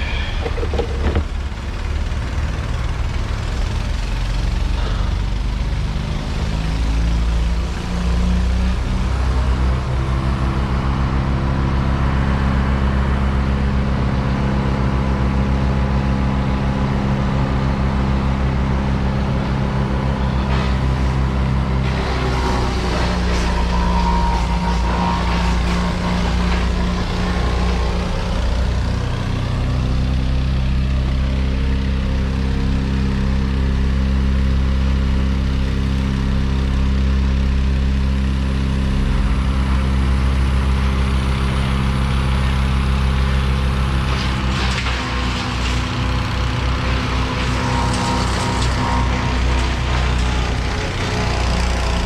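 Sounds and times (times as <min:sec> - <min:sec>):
large engine running: 0:00.0 - 0:52.0.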